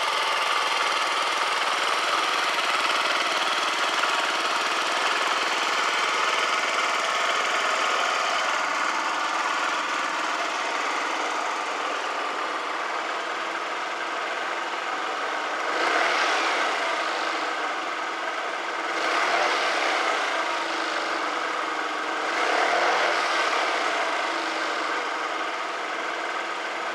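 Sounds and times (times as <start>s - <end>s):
scooter engine idling: 0.0s - 26.9s.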